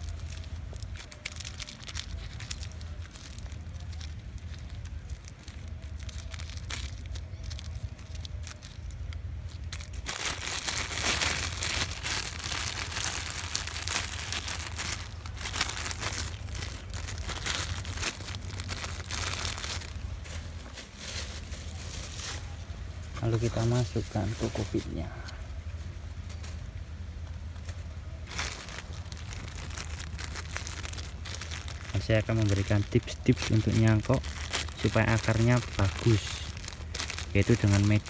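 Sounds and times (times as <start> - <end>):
plastic sleeve crinkling: 0.0 - 38.0.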